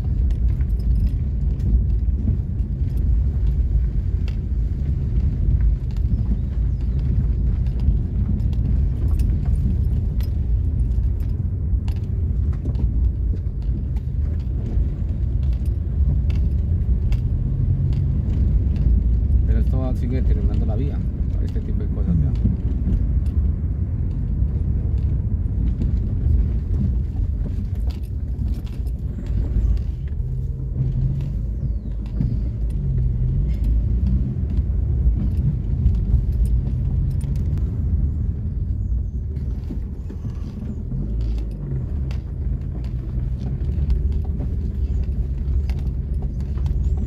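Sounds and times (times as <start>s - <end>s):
car engine and tyre rumble: 0.0s - 47.0s
light knocks and rattles: 0.0s - 47.0s.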